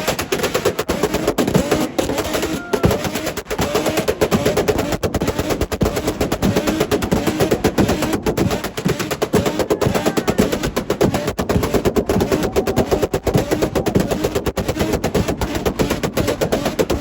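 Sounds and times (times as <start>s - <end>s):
car exhaust popping and banging: 0.0s - 17.0s.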